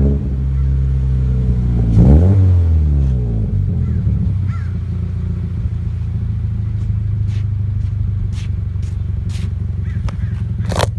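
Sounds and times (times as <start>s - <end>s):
car engine idling: 0.1s - 10.9s.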